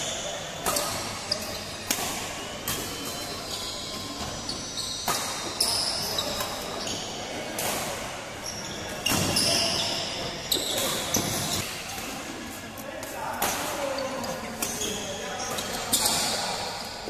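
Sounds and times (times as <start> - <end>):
shoes squeaking on court floor: 0.0 - 11.7, 13.5 - 16.7.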